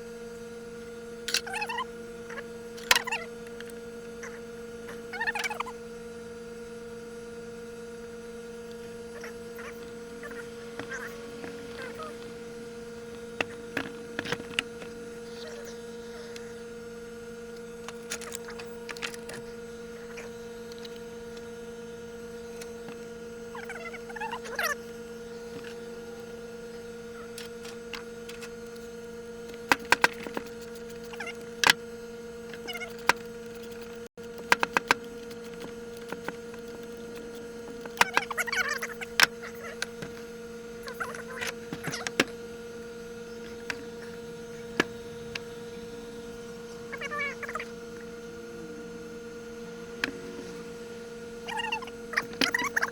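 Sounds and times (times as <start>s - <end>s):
electrical hum: 0.0s - 52.9s.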